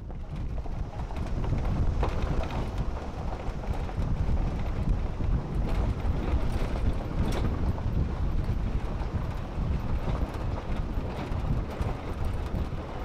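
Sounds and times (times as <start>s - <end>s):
road noise: 0.0s - 13.0s
wind buffeting microphone: 0.0s - 13.0s.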